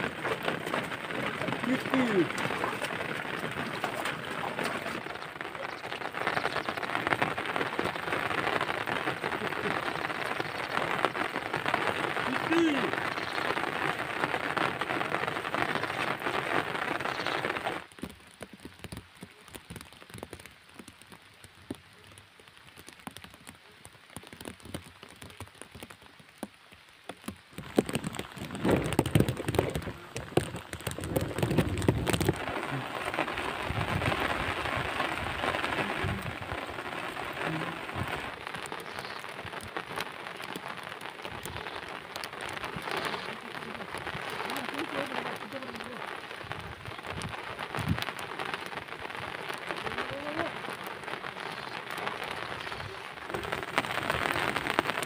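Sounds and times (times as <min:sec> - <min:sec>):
rain on field and mud: 0:00.0 - 0:55.0.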